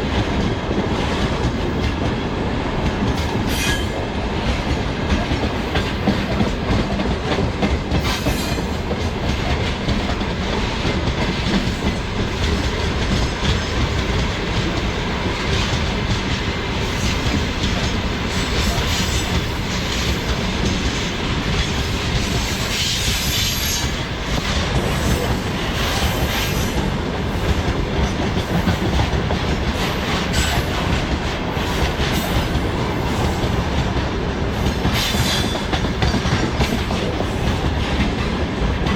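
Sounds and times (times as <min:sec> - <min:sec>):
freight train wheels clattering: 0:00.0 - 0:38.9.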